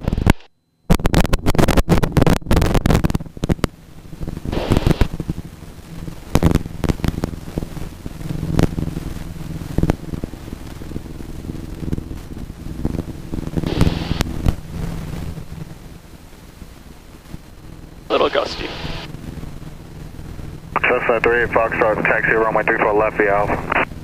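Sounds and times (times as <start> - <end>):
crackling pops: 0.0 - 24.0
light aircraft engine drone: 2.1 - 24.0.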